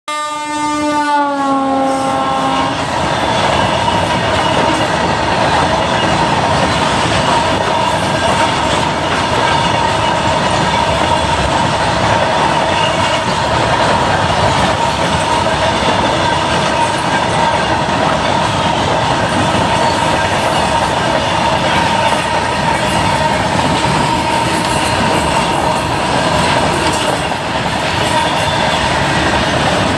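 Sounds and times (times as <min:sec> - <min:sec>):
train wheels clattering: 0:02.3 - 0:29.9.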